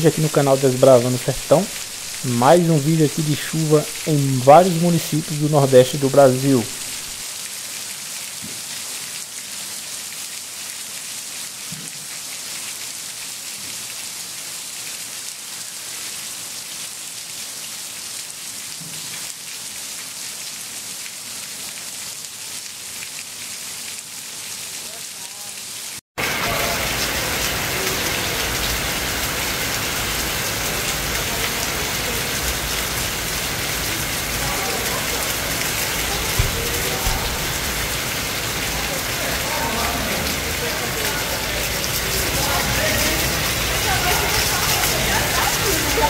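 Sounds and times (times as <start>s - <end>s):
heavy rain on leaves and roof: 0.0s - 46.0s.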